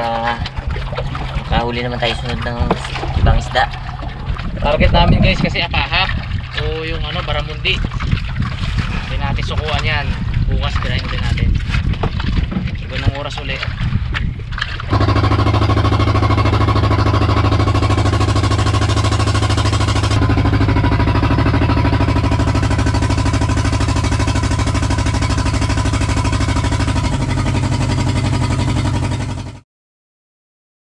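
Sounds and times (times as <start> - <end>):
boat engine running: 0.0 - 29.6.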